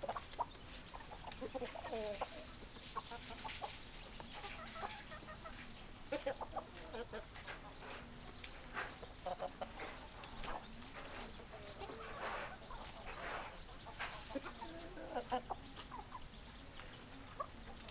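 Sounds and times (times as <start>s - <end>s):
hens clucking: 0.0s - 17.9s.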